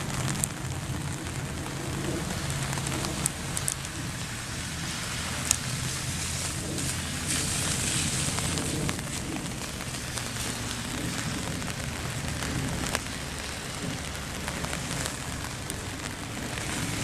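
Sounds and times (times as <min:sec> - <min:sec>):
low steady rumble: 0:00.0 - 0:17.0
sharp raindrop ticks: 0:00.0 - 0:17.0
steady rain falling: 0:00.0 - 0:17.0.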